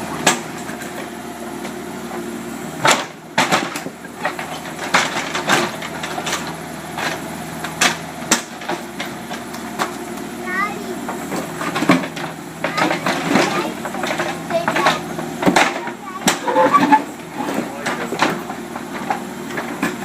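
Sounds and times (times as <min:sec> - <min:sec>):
backhoe engine running: 0:00.0 - 0:20.0.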